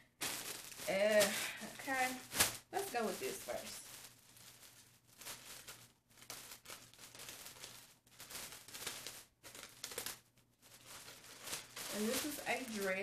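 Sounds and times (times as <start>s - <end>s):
plastic bag crinkling: 0.1s - 13.0s.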